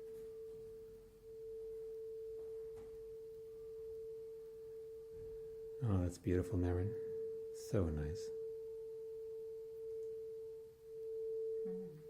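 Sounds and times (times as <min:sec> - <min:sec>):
crystal singing bowl tone: 0:00.0 - 0:12.0.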